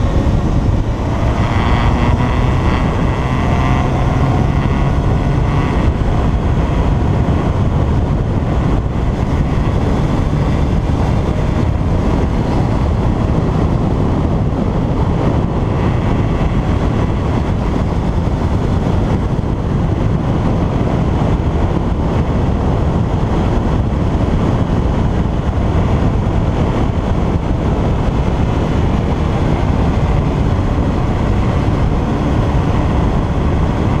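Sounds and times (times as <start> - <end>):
motorcycle engine running: 0.0 - 34.0
wind rushing on microphone: 0.0 - 34.0.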